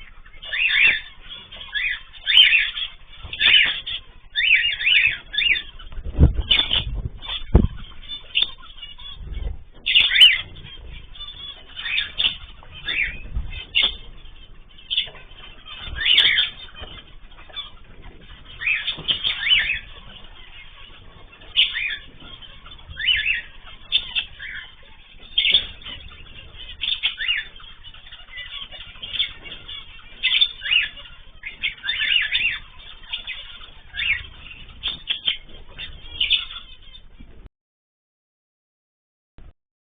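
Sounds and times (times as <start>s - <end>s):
cage birds chirping: 0.0s - 37.5s.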